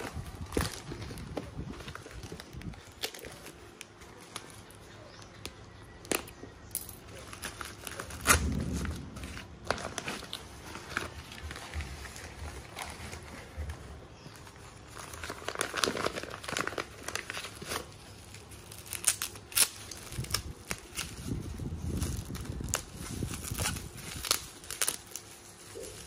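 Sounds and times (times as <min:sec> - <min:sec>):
bubble wrap crinkling: 0:00.0 - 0:26.0.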